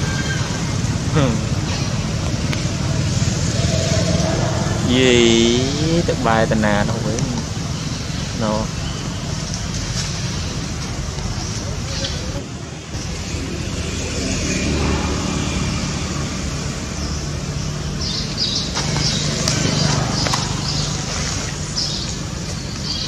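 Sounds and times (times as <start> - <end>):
birds chirping: 0.0 - 23.0
low traffic rumble: 0.0 - 23.0.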